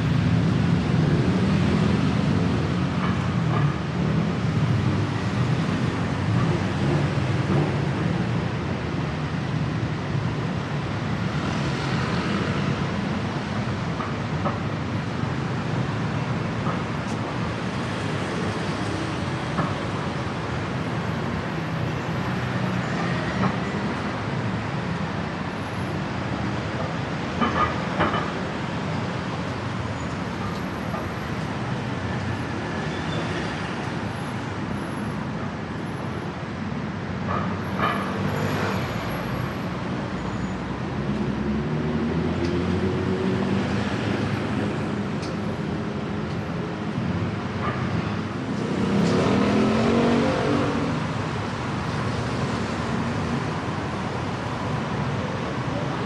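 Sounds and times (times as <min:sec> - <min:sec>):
busy road traffic: 0:00.0 - 0:56.0.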